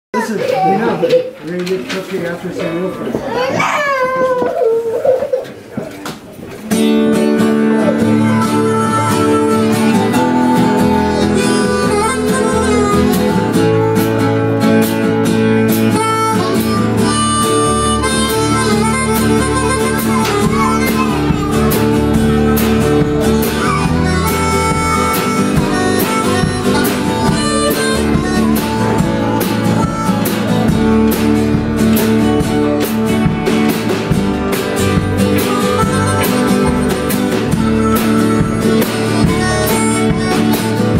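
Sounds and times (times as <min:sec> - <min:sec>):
country blues band playing: 0:00.2 - 0:40.9
harmonica: 0:07.0 - 0:40.9.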